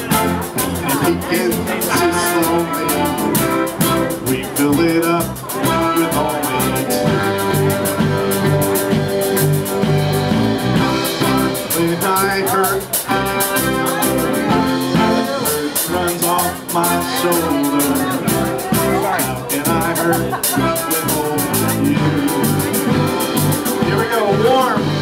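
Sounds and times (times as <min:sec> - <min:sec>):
live band playing: 0:00.0 - 0:25.0.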